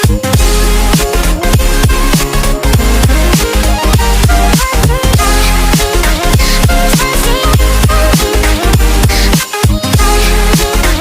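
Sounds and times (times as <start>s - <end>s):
electronic music with fast beat: 0.0s - 11.0s.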